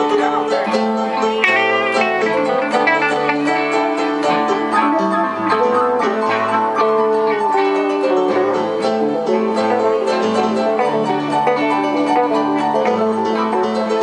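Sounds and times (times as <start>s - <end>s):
keyboard sustained chords: 0.0s - 14.0s
picked electric guitar: 0.0s - 14.0s.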